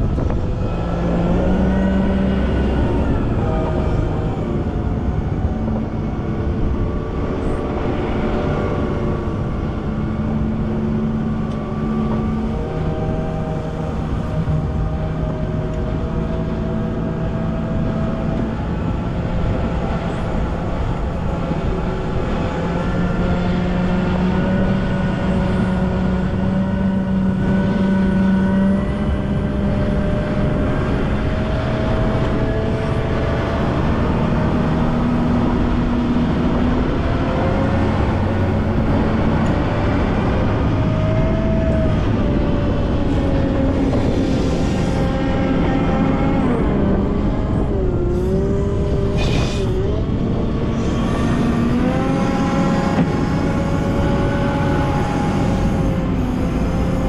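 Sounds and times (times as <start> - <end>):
wheel loader diesel engine running: 0.0 - 57.0.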